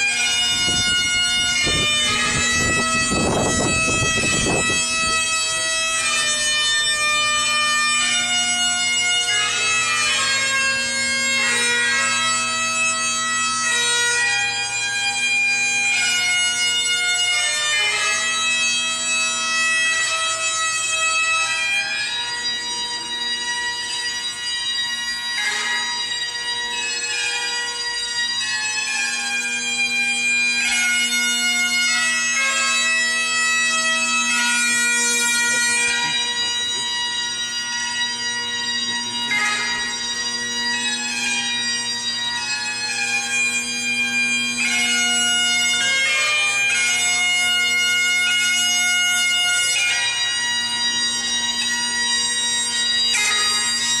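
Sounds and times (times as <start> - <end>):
bagpipe playing a tune: 0.0 - 54.0.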